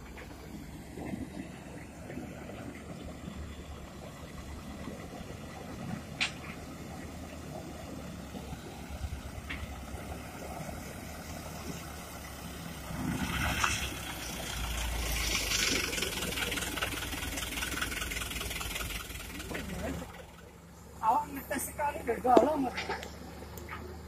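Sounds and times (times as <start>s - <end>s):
heavy diesel engines running: 0.0s - 24.0s.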